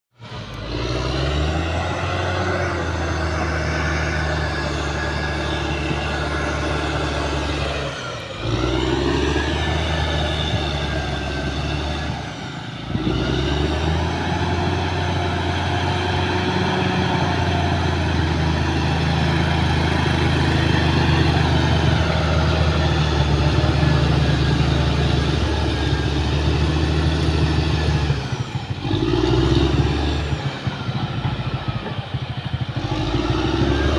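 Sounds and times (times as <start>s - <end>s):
bulldozer diesel engine running: 0.2s - 33.9s.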